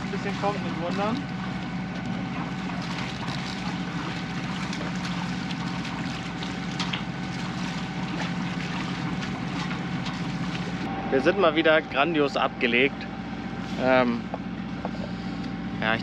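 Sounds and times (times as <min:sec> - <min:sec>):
boat engine running: 0:00.0 - 0:16.0
thin steady whine: 0:00.0 - 0:16.0.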